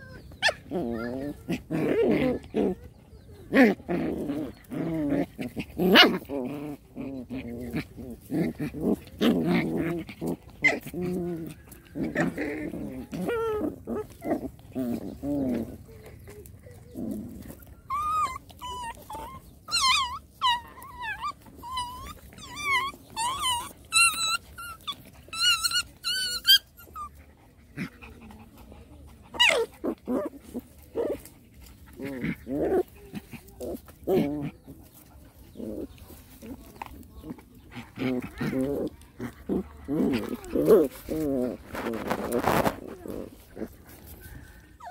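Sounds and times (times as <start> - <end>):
puppies whining and yelping: 0.0 - 27.6, 28.4 - 44.9
puppies growling: 0.0 - 44.9.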